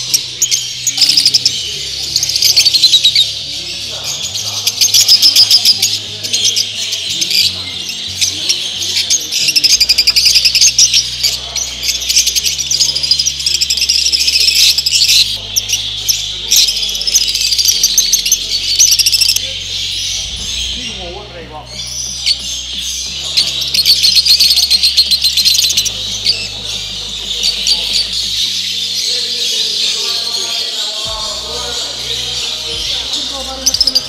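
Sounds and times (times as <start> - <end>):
birds chirping and chattering: 0.0 - 34.0
low sustained music notes: 0.0 - 34.0.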